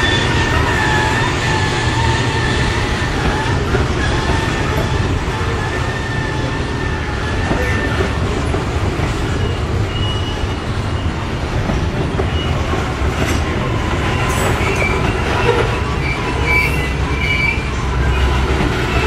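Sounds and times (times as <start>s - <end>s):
high wheel squeals: 0.0s - 8.2s, 9.2s - 11.5s, 12.3s - 19.0s
rumble of train wheels on rails: 0.0s - 19.0s.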